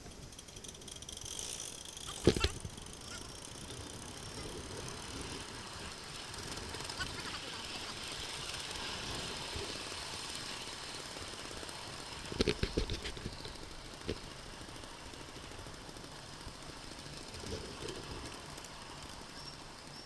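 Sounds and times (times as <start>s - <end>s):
miniature steam train running: 0.0s - 20.0s.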